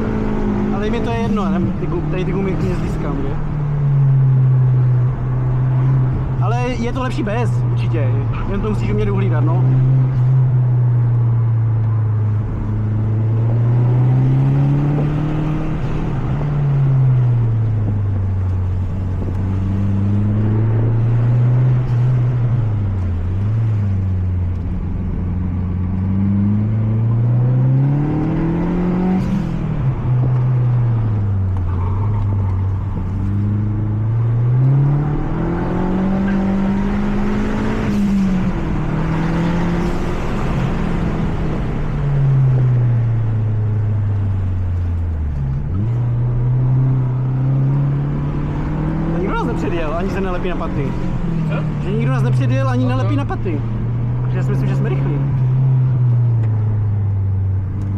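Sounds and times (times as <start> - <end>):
car engine heard from cabin: 0.0 - 57.9.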